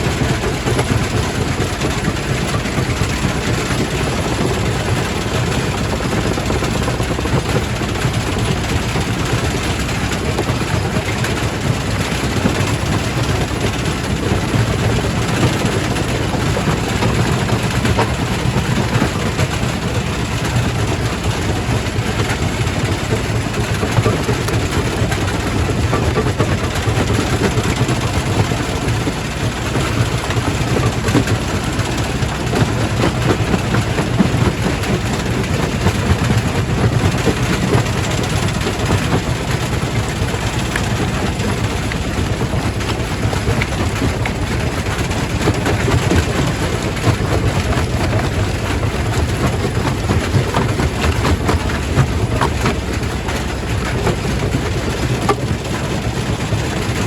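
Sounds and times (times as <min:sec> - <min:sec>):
rock crusher machine drone: 0:00.0 - 0:57.0.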